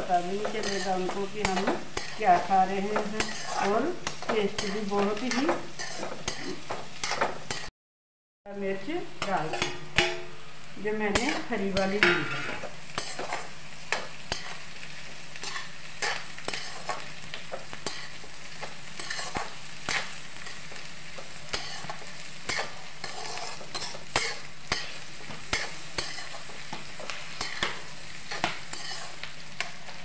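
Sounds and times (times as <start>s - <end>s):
vegetables sizzling in hot oil: 0.0s - 7.7s, 8.5s - 30.0s
metal spatula scraping pan: 0.2s - 7.7s, 9.2s - 10.3s, 11.1s - 14.6s, 15.4s - 30.0s.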